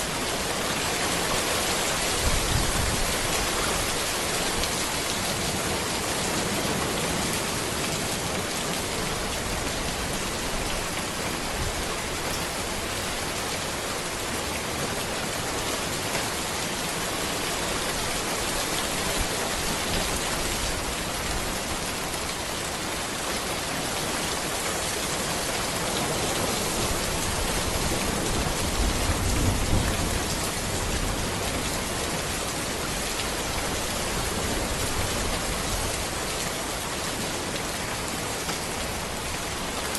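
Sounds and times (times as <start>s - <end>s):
rain falling on road and trees: 0.0s - 39.9s.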